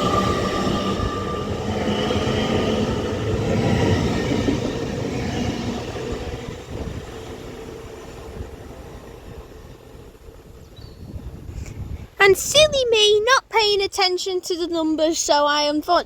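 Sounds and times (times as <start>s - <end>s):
train passing through station: 0.0s - 13.9s.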